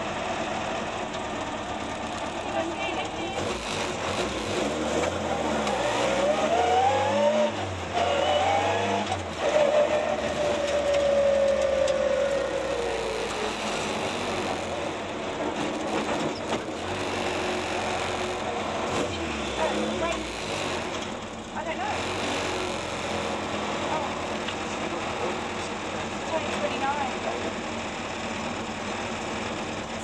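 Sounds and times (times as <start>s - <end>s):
rally car engine revving: 1.6s - 30.0s.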